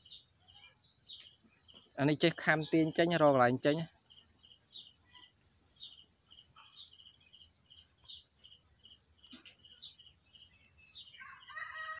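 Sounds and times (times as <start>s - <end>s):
bird chirping: 0.0s - 11.9s.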